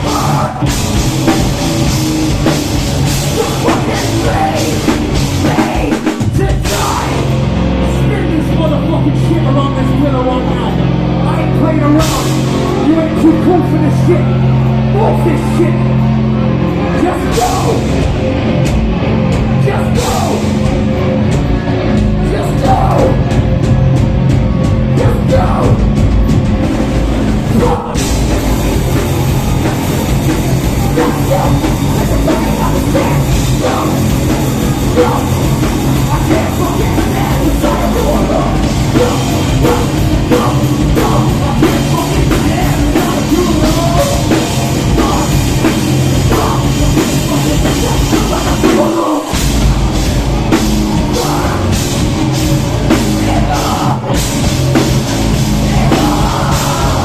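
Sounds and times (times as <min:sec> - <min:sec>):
live metal band playing: 0:00.0 - 0:57.0.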